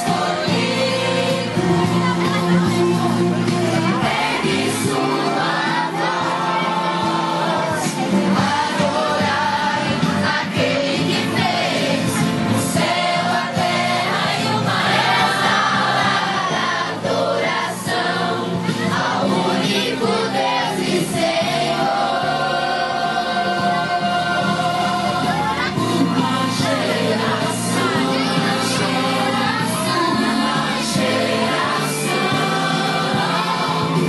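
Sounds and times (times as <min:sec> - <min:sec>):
young voices singing worship song: 0:00.0 - 0:34.0.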